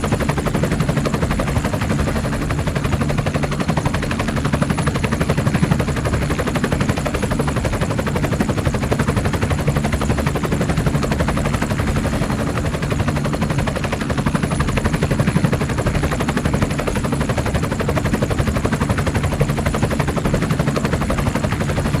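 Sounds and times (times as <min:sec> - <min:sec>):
helicopter rotor chopping: 0:00.0 - 0:22.0.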